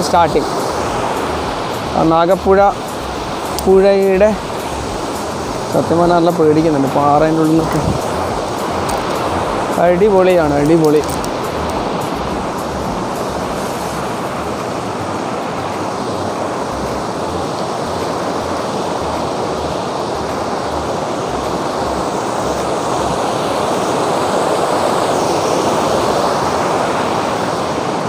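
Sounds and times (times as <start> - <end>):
water cascading over rocks: 0.0 - 28.0.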